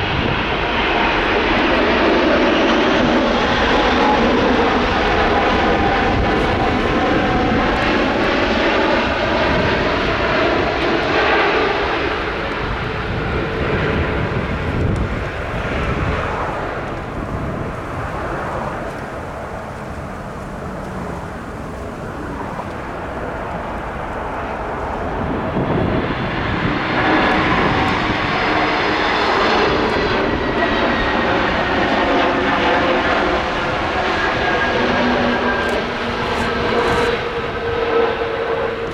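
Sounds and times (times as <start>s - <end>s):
jet airliner engines whining: 0.0s - 38.9s.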